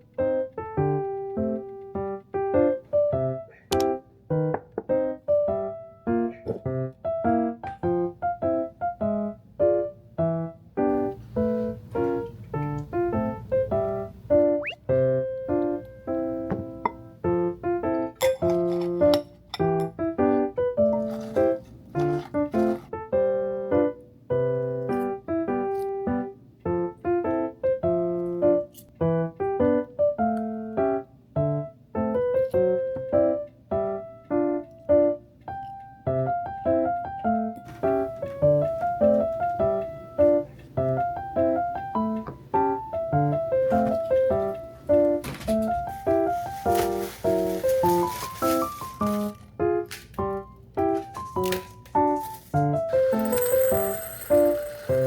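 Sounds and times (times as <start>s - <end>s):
gentle keyboard music: 0.0s - 55.0s
piano melody: 0.0s - 55.0s.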